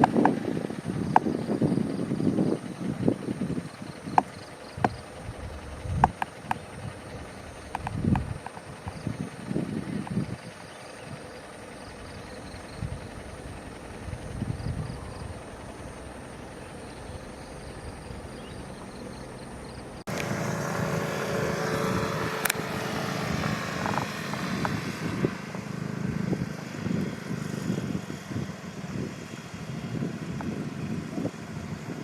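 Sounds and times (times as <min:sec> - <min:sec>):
faint high engine whine: 0:00.0 - 0:32.0
low engine rumble: 0:00.0 - 0:32.0.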